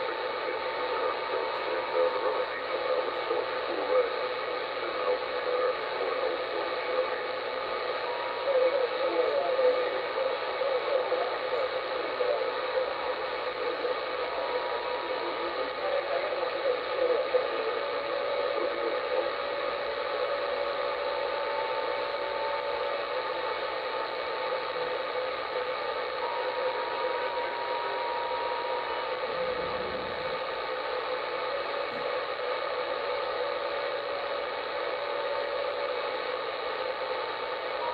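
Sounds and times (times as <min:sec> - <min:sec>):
garbled radio voices: 0:00.0 - 0:37.9
radio static hiss: 0:00.0 - 0:37.9.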